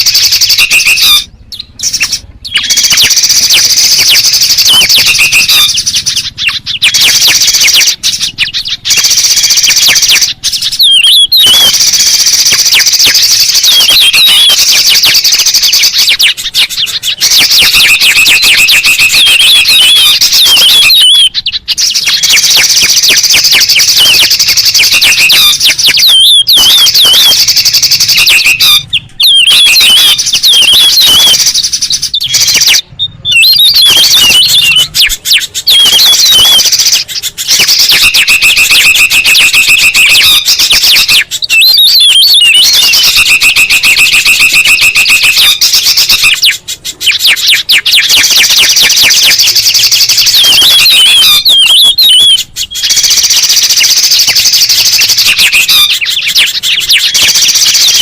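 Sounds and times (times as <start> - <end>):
birds chattering and trilling: 0.0 - 58.0.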